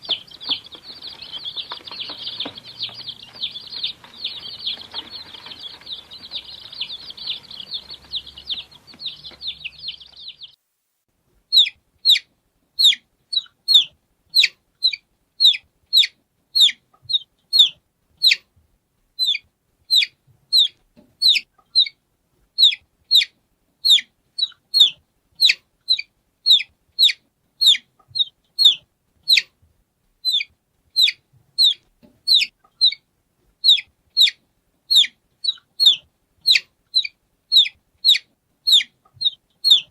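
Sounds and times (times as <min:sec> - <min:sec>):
chorus of chicks peeping: 0:00.0 - 0:10.6, 0:11.5 - 0:18.6, 0:19.2 - 0:29.6, 0:30.2 - 0:39.9
single chick peeping: 0:00.0 - 0:10.6, 0:11.5 - 0:18.5, 0:19.2 - 0:29.6, 0:30.2 - 0:39.9.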